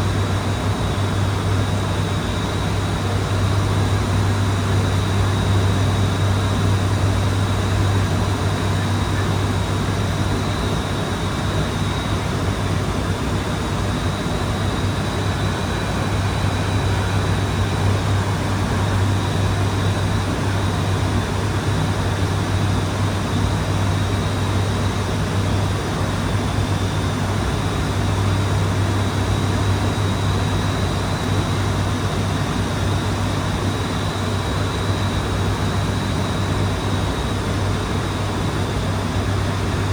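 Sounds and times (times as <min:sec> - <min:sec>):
turboprop engines humming: 0:00.0 - 0:39.9.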